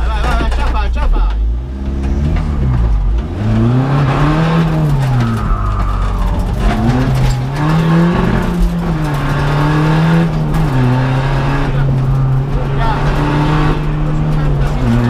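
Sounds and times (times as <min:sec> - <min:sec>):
car engine revving hard: 0:01.4 - 0:15.0.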